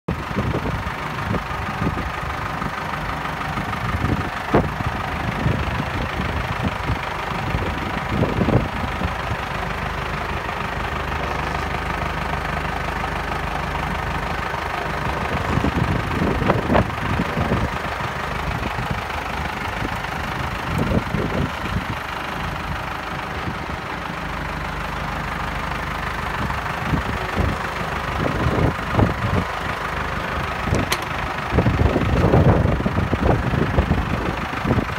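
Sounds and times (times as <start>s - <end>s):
tractor engine idling: 0.1s - 34.9s.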